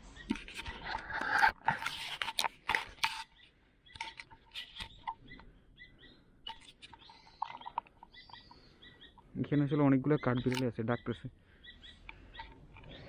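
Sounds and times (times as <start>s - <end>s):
squirrels chirping: 0.0s - 1.4s, 3.1s - 13.0s.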